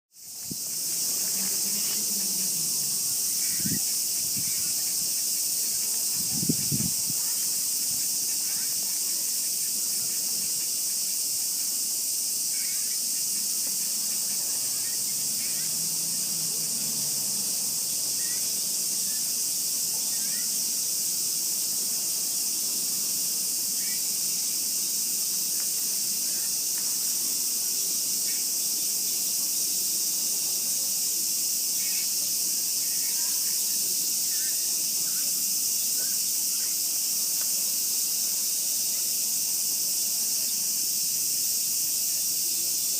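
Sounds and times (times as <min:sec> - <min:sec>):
cicadas droning: 0:00.1 - 0:42.9.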